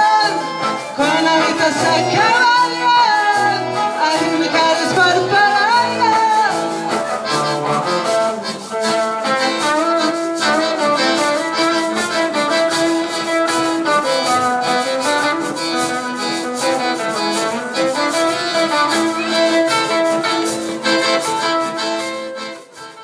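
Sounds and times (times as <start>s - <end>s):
accordion: 0.0s - 23.0s
electric guitar: 0.0s - 23.0s
live band playing: 0.0s - 23.0s
cello melody: 0.2s - 23.0s.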